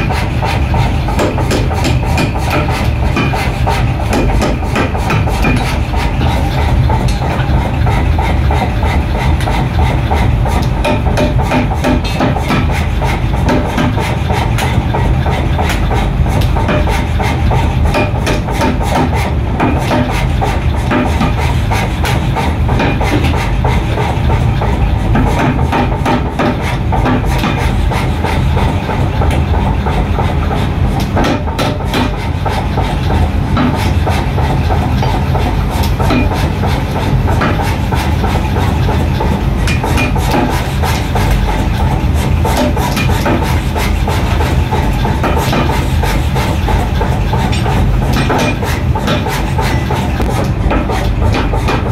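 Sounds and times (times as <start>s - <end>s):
machine rumble: 0.0s - 51.9s
power hammer striking steel: 0.0s - 51.9s.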